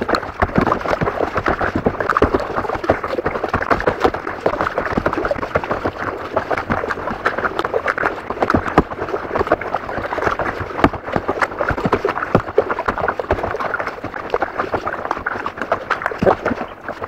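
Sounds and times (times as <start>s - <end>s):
paddle splashing water: 0.0s - 17.0s
water slapping against hull: 0.0s - 17.0s.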